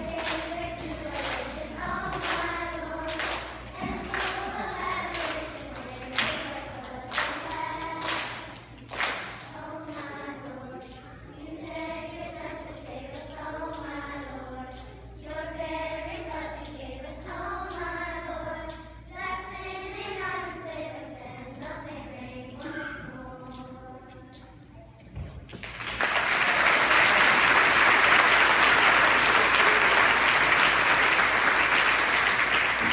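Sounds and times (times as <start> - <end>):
children's choir singing: 0.0 - 24.6, 26.2 - 32.9.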